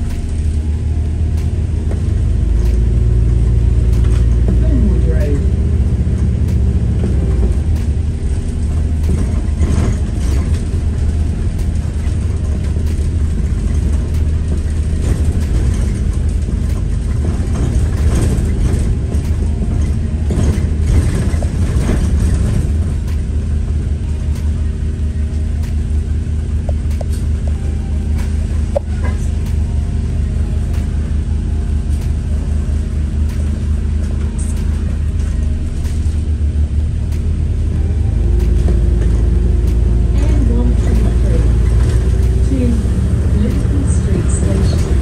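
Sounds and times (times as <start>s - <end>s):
bus engine droning: 0.0s - 45.0s
rattles of bus body: 0.0s - 45.0s.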